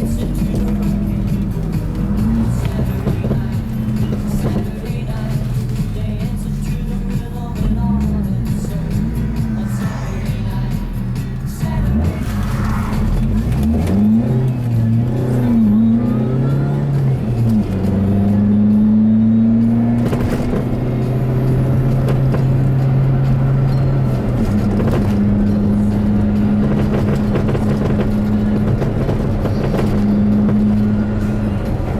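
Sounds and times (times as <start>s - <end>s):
car engine running: 0.0s - 31.9s
suspension rattling over bumps: 0.0s - 31.9s.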